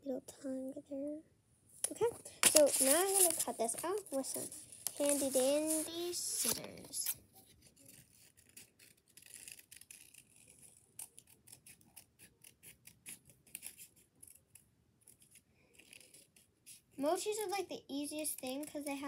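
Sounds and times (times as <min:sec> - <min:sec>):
scissors snipping paper: 0:01.8 - 0:19.0.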